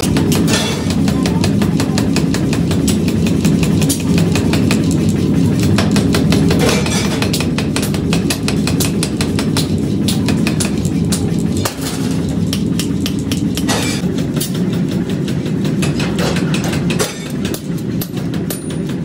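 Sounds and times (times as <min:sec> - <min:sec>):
flywheel drive rumbling: 0:00.0 - 0:19.0
power hammer striking hot steel: 0:00.0 - 0:19.0.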